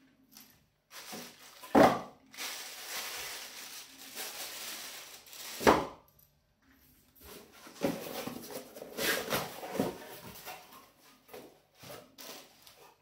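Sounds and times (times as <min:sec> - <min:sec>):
rustling and scraping: 0:00.4 - 0:05.7, 0:06.6 - 0:13.0.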